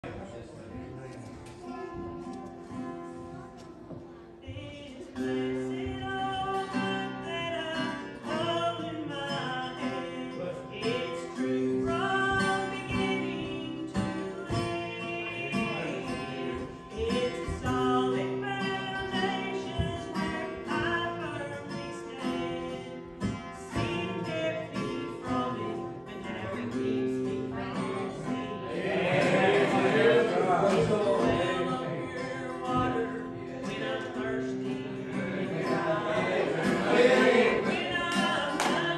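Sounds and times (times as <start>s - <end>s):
guitar accompaniment: 0.0s - 38.9s
person singing: 3.3s - 38.9s.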